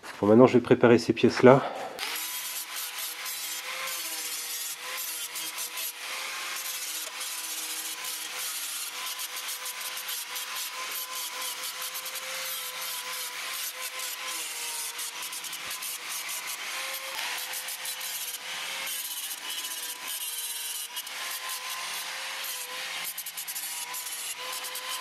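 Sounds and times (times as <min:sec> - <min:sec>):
angle grinder grinding metal: 0:01.8 - 0:25.0.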